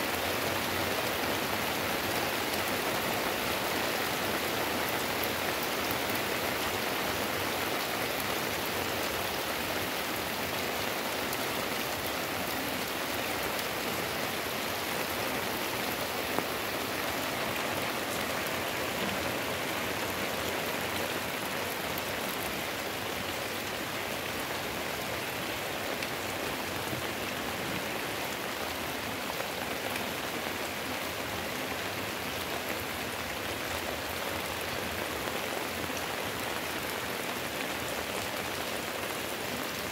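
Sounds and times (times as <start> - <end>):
heavy rain on roofs and leaves: 0.0 - 39.9.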